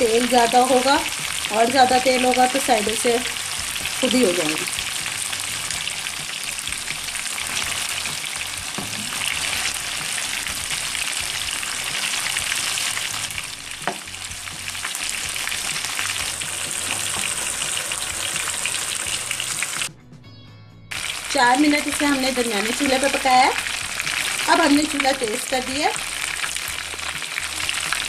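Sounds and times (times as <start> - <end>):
fish sizzling in hot oil: 0.0 - 19.9, 20.9 - 28.0.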